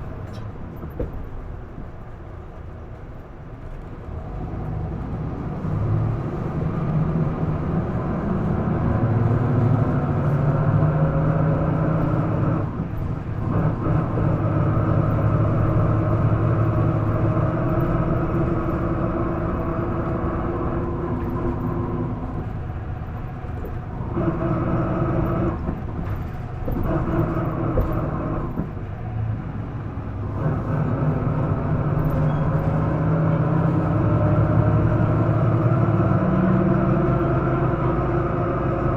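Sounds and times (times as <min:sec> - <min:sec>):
bus engine revving: 0:00.0 - 0:38.9.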